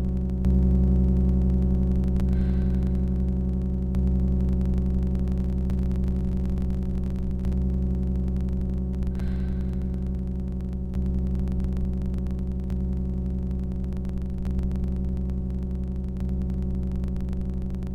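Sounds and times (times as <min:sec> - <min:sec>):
low droning music: 0:00.0 - 0:17.9.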